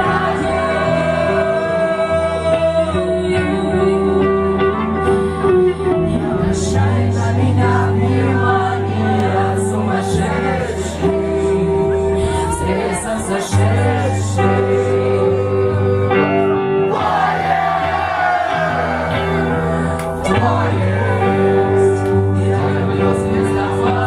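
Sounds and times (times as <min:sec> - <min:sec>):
person singing: 0:00.0 - 0:24.0.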